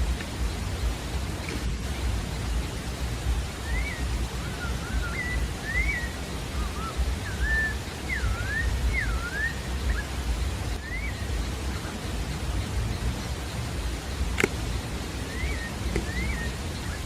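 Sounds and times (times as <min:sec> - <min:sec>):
low rumble: 0:00.0 - 0:17.0
thrush singing whistled phrases: 0:00.0 - 0:17.0.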